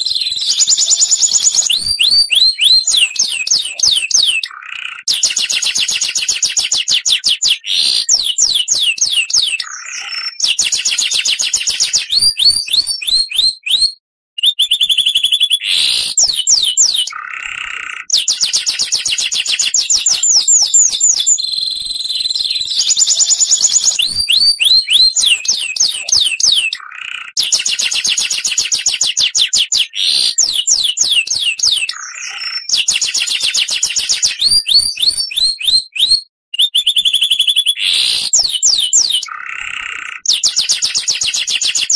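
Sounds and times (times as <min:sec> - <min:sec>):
bird singing sliding chirps: 0:00.0 - 0:41.9.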